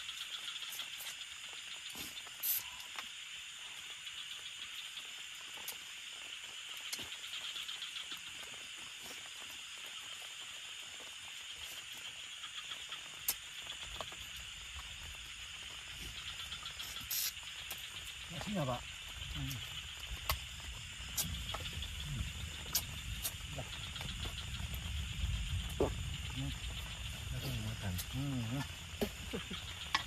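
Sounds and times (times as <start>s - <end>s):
night insects chorus: 0.0s - 30.0s.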